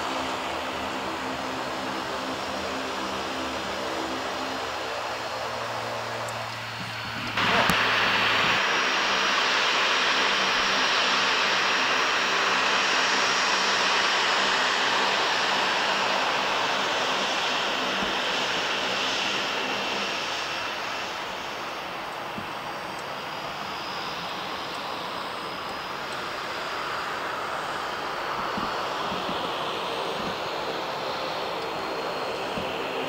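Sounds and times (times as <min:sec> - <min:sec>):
jet engines taxiing: 0:00.0 - 0:33.0.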